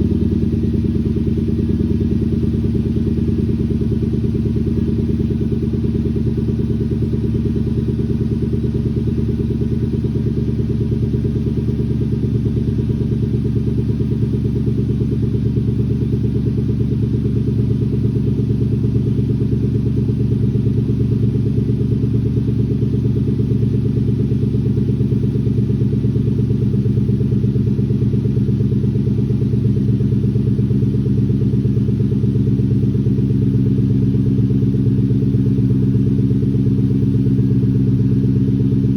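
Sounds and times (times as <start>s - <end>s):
deep car engine idling: 0.0s - 38.9s.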